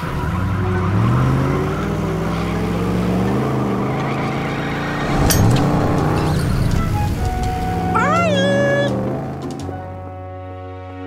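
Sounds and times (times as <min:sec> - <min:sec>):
cartoon truck engine drone: 0:00.0 - 0:10.2.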